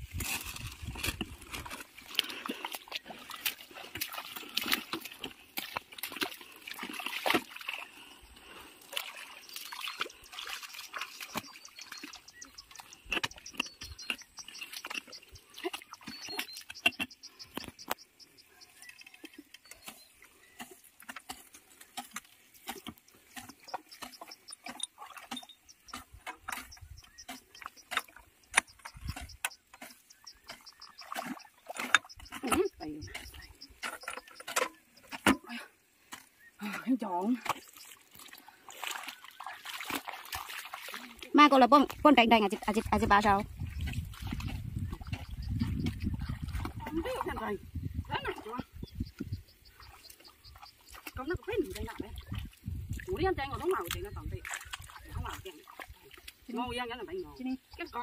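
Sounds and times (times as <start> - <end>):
mud and water squelching: 0.0 - 58.0.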